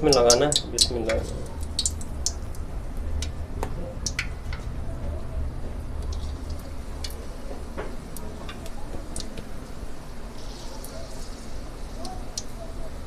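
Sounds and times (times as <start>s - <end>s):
chillies deep-frying in hot oil: 0.0s - 4.8s, 5.5s - 13.0s
steady low hum: 0.0s - 13.0s.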